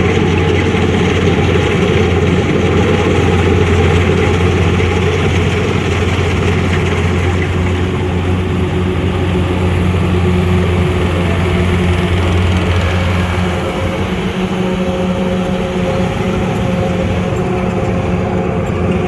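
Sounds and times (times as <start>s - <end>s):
combine harvester engine droning: 0.0s - 19.0s.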